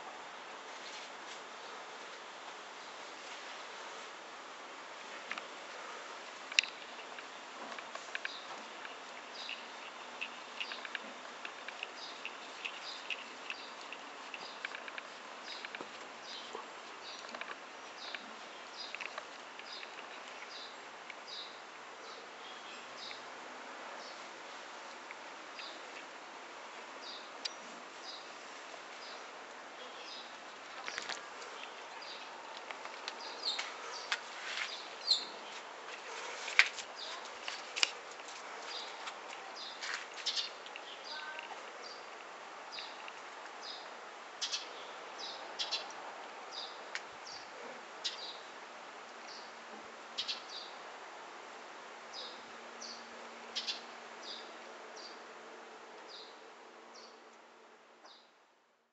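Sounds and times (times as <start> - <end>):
small birds chirping: 5.0 - 26.2, 26.8 - 50.8, 52.1 - 55.3, 56.0 - 57.3, 58.0 - 58.4.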